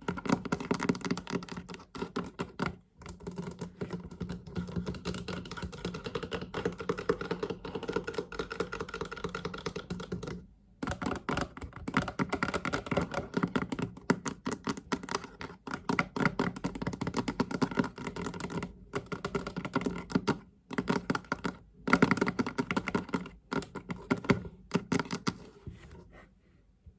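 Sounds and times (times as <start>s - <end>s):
fast tapping on a hollow box: 0.0s - 25.5s.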